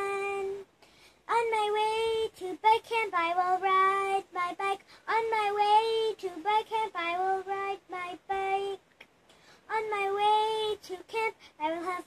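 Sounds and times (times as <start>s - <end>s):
boy singing unaccompanied: 0.0s - 0.7s, 1.3s - 9.0s, 9.6s - 12.0s.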